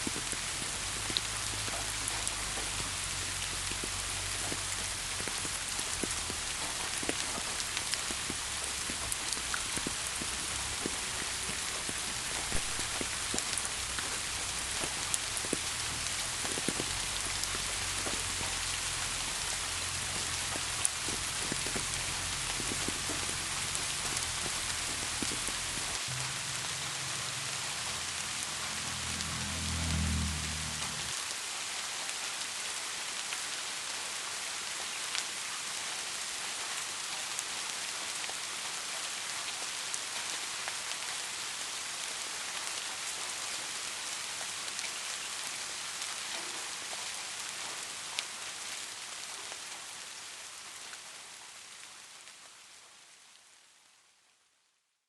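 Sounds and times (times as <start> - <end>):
rain falling: 0.0 - 54.5.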